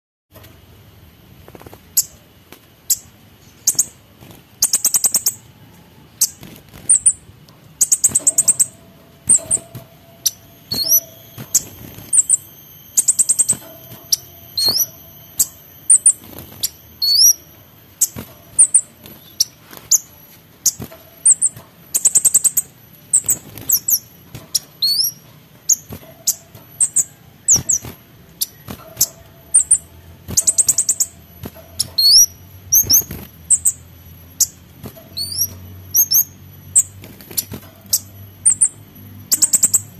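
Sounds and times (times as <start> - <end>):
bird singing trills and whistles: 2.9 - 39.9.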